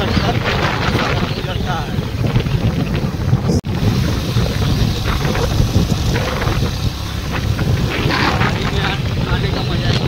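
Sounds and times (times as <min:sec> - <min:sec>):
motorcycle engine and road rumble: 0:00.0 - 0:10.0
wind rushing over microphone: 0:00.0 - 0:10.0.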